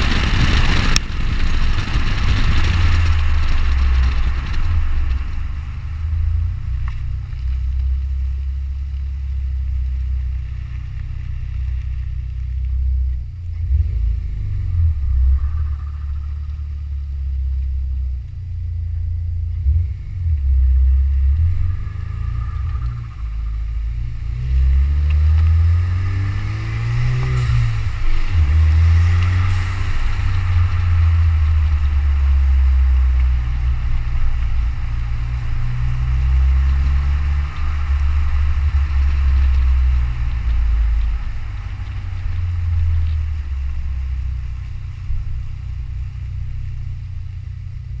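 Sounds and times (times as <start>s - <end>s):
deep car exhaust note: 0.0s - 48.0s.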